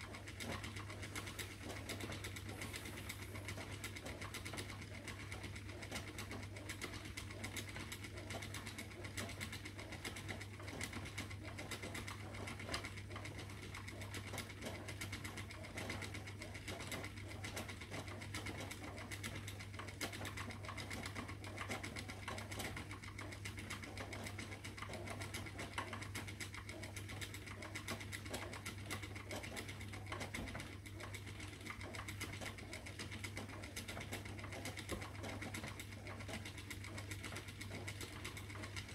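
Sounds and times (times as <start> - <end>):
spinning wheel humming and ticking: 0.0 - 38.9.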